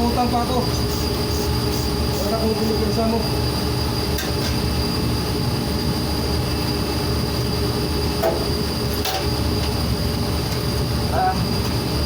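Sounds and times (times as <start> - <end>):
industrial machinery low rumble: 0.0 - 12.0
machinery high whine: 0.0 - 12.0.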